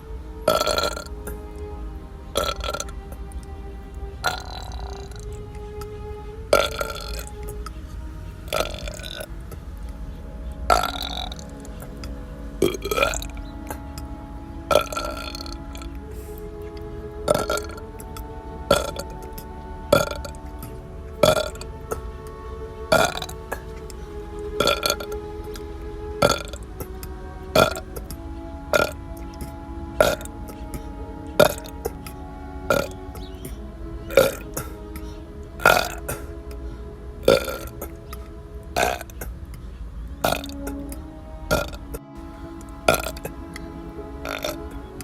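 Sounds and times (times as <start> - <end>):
background music with held notes: 0.0 - 45.0.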